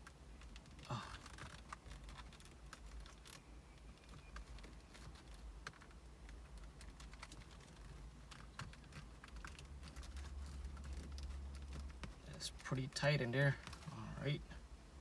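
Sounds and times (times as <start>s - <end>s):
small clicks and taps of parts: 0.0s - 13.0s
low steady hum: 0.0s - 15.0s.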